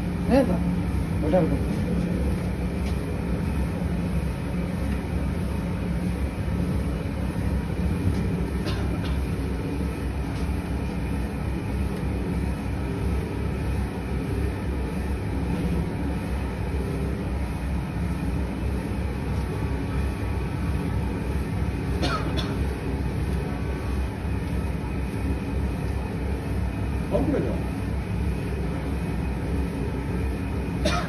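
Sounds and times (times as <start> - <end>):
feed mixer rumbling: 0.0 - 31.0.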